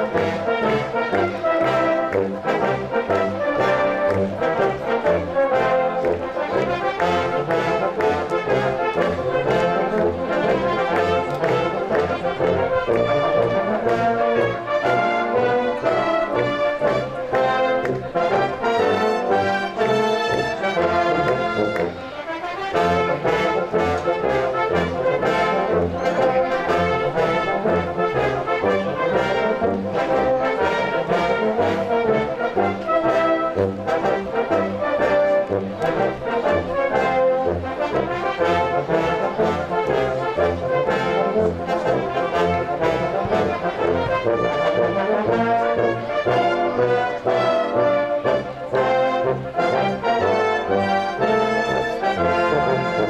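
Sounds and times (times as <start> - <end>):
brass band playing march: 0.0 - 53.0.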